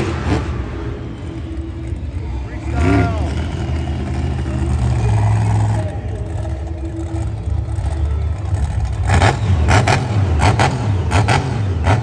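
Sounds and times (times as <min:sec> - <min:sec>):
truck engine rumbling and revving: 0:00.0 - 0:12.0.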